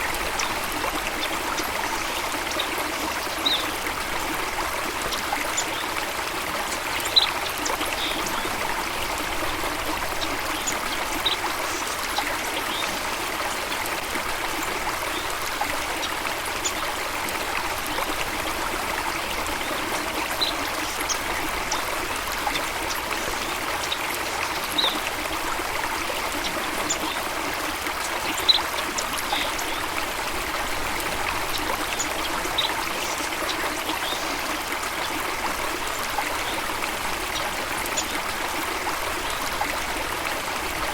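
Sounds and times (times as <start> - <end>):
water flowing over rocks: 0.0 - 40.9.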